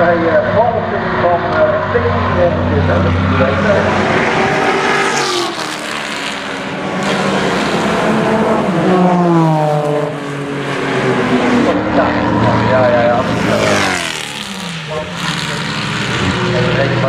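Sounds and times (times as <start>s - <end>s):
race cars passing at speed: 0.0s - 17.0s.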